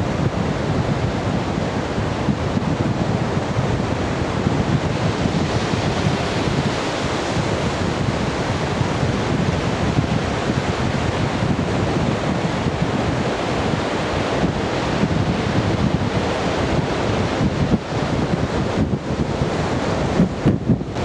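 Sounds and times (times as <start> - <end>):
wind buffeting microphone: 0.0 - 21.0
waves breaking: 0.7 - 21.0.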